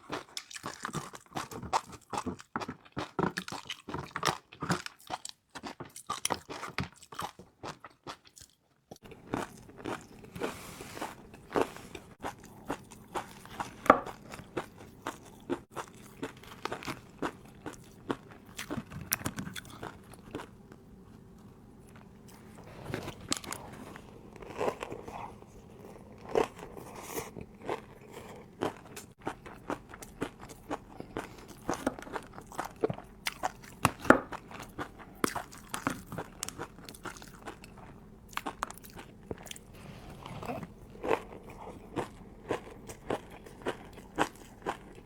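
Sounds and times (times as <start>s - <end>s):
person chewing crispy noodles: 0.0s - 45.0s.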